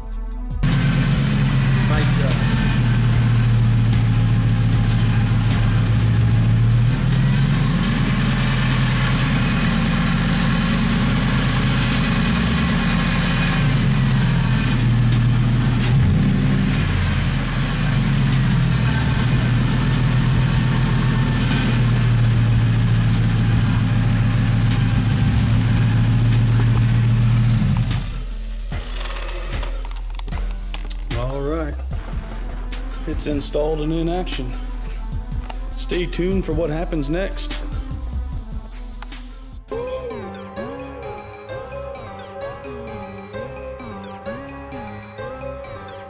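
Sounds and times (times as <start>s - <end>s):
car engine idling: 0.6s - 39.2s.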